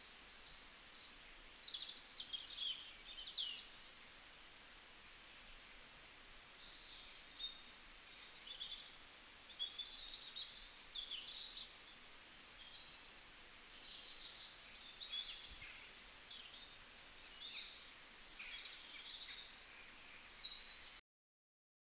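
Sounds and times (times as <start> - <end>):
small birds chirping: 0.0 - 21.0
soft steady hiss: 0.0 - 21.0.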